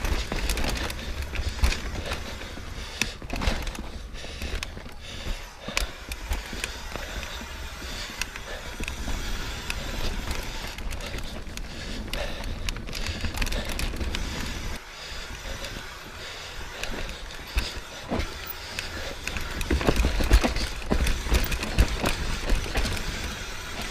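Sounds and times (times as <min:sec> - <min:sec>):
bike rattling clicks and knocks: 0:00.0 - 0:23.9
bike tyres rolling over rock: 0:00.0 - 0:23.9.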